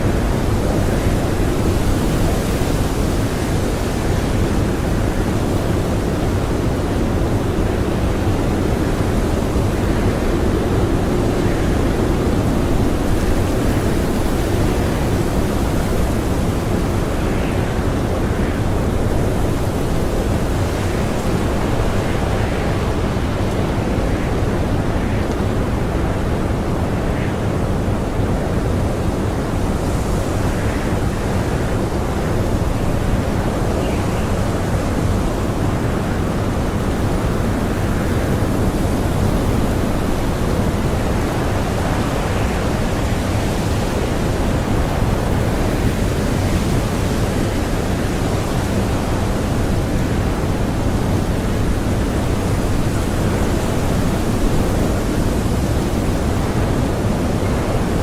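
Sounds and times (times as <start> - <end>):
strong blizzard wind: 0.0 - 58.0.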